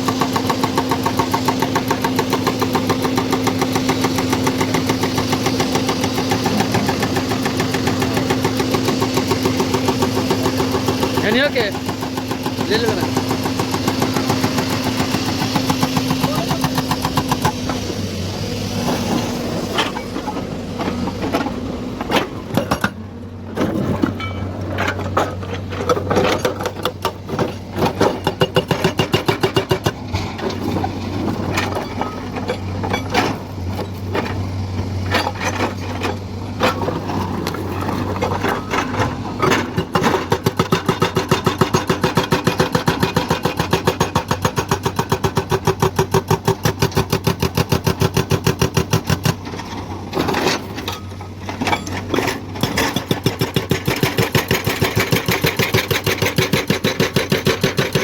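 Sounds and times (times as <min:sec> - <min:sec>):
excavator diesel engine working: 0:00.0 - 0:58.0.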